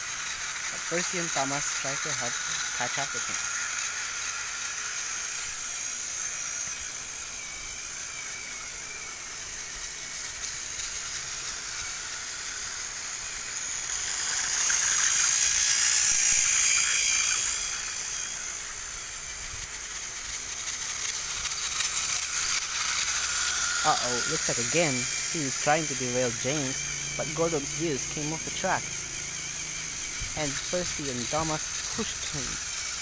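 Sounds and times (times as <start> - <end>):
toy train motor whine: 0.0 - 33.0.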